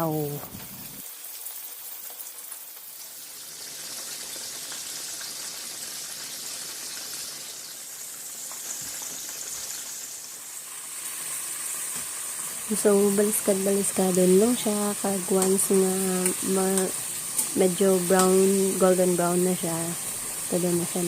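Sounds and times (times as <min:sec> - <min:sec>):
chicken frying in hot oil: 0:00.0 - 0:21.0.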